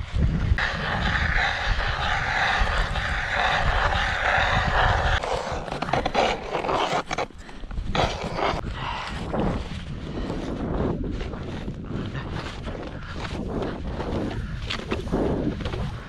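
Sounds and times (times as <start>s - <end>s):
wind buffeting microphone: 0.0s - 7.0s, 7.7s - 16.0s.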